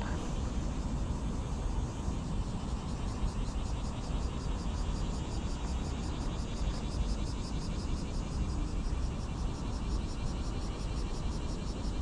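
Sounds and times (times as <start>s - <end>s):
constant low rumble: 0.0s - 12.0s.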